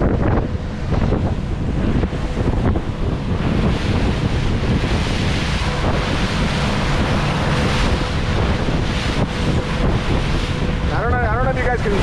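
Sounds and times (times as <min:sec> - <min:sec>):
faint boat engine hum: 0:00.0 - 0:12.0
water slapping against hull: 0:00.0 - 0:12.0
wind buffeting microphone: 0:00.0 - 0:12.0.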